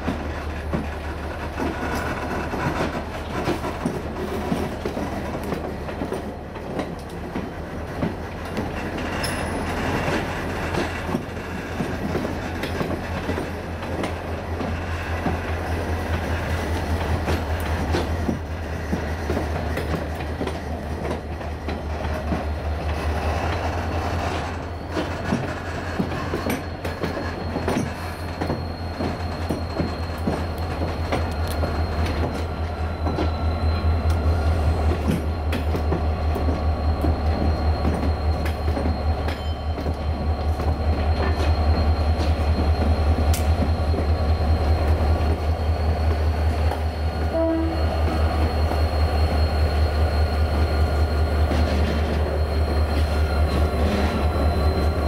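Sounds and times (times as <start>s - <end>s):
diesel locomotive engine rumble: 0.0s - 55.0s
train wheels clicking: 0.0s - 55.0s.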